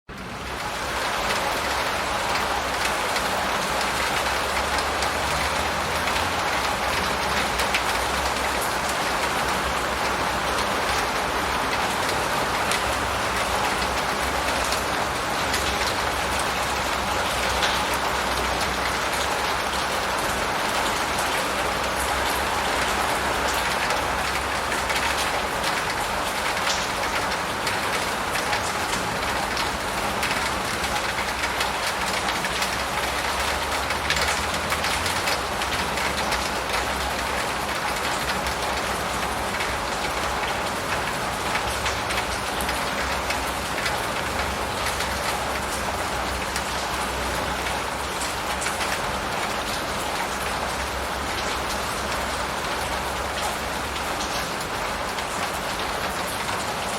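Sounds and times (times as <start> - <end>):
steady rain falling: 0.1 - 56.9.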